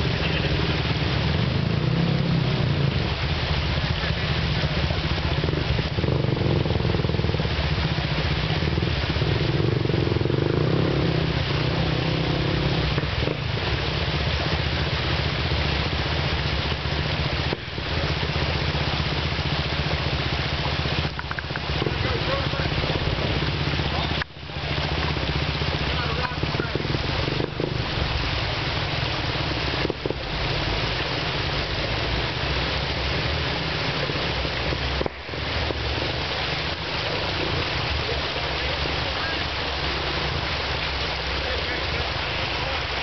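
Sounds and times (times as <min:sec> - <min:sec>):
engine running under load: 0:00.0 - 0:43.0.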